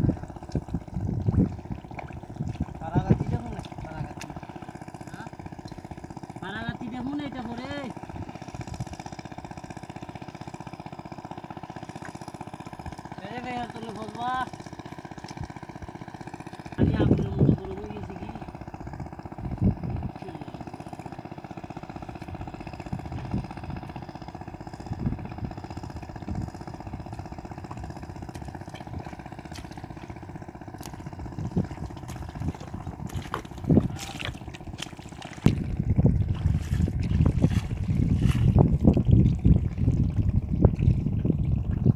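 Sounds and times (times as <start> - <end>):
engine droning: 0.0 - 41.9
squelching in wet mud and water: 0.0 - 41.9.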